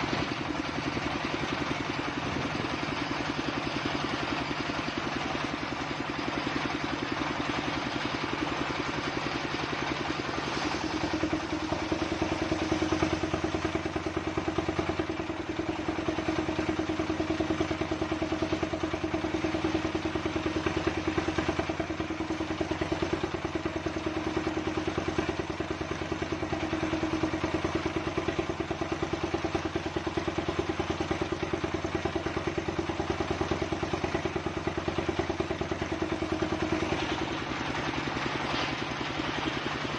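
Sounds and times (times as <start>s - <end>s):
saw engine chugging: 0.0s - 39.9s.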